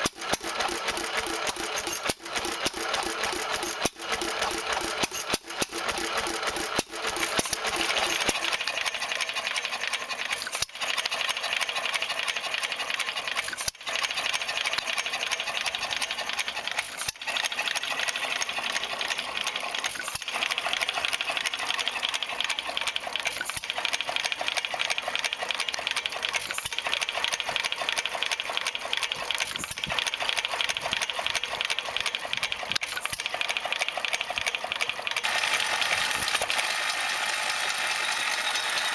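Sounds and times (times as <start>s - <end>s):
stationary engine clattering: 0.0s - 38.9s.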